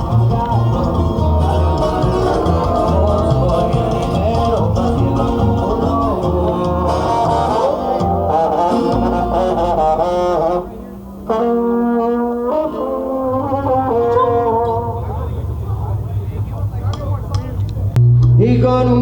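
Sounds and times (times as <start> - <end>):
brass band music with bass: 0.0 - 19.0.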